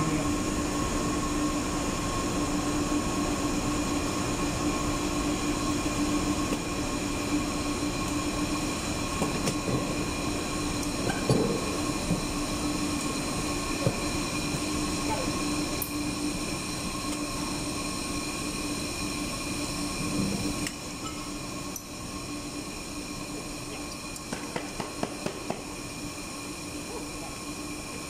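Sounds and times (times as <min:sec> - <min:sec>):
machinery hum: 0:00.0 - 0:28.0.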